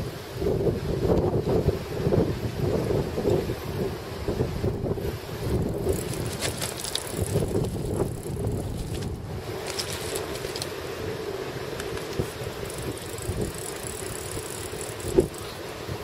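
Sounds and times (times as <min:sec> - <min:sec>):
wind buffeting microphone: 0:00.0 - 0:10.7, 0:11.8 - 0:16.0
steady low hum: 0:00.0 - 0:16.0.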